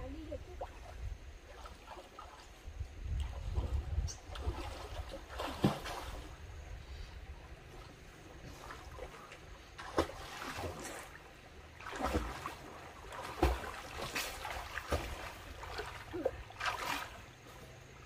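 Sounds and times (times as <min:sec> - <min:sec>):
splashing through water: 0:00.5 - 0:06.5, 0:07.7 - 0:17.4.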